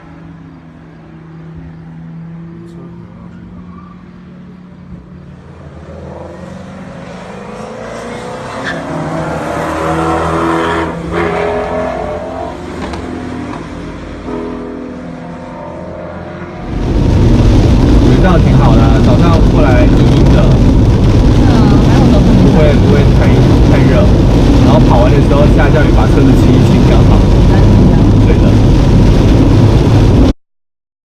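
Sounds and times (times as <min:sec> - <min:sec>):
race car engine running hard: 0:00.0 - 0:30.3.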